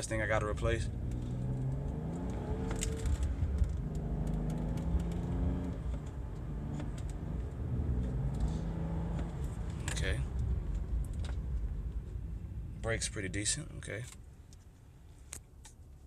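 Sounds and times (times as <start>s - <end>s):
car engine from inside cabin: 0.0s - 13.6s.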